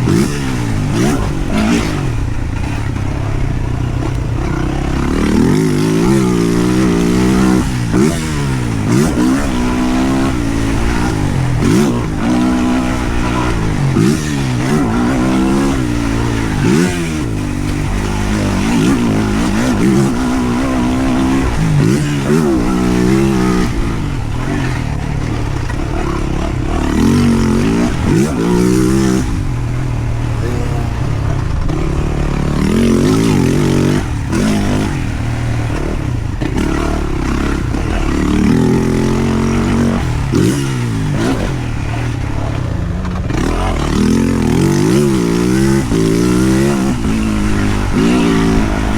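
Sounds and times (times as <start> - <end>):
motocross engine revving: 0.0 - 48.9
wind and track noise: 0.0 - 48.9.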